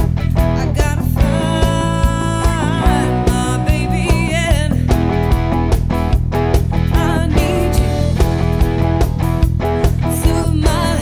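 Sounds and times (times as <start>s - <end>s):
live rock band: 0.0s - 11.0s.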